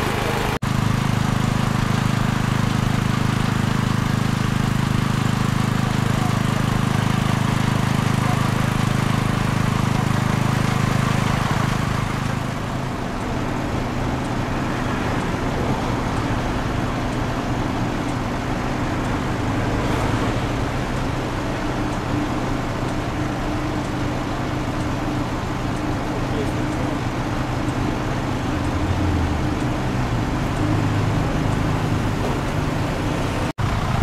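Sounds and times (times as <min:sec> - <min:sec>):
fire engine idling: 0:00.0 - 0:34.0.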